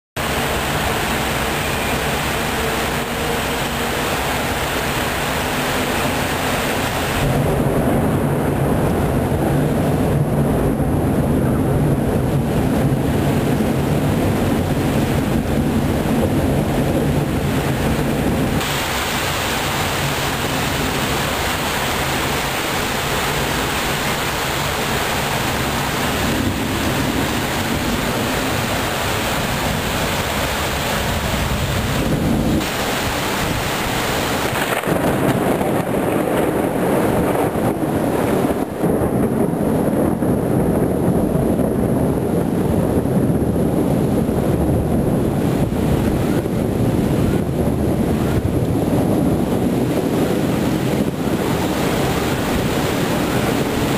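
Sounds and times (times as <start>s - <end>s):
rolling thunder: 0.2s - 53.9s
steady rain: 0.2s - 53.9s.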